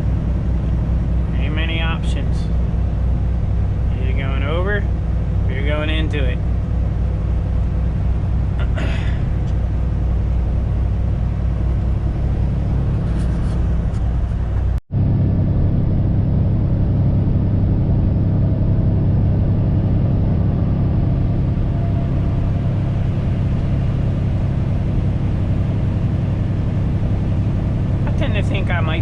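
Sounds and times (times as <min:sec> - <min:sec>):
diesel engine droning: 0:00.0 - 0:29.0
road noise: 0:00.0 - 0:29.0.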